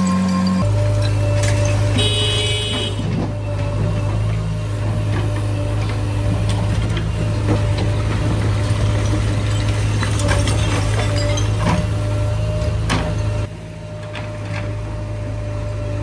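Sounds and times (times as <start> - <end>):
heavy machinery engine humming: 0.0 - 16.0.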